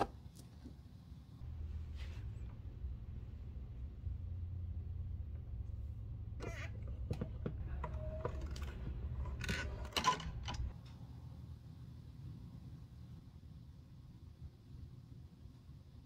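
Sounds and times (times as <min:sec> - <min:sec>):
low hum: 0:01.4 - 0:15.6.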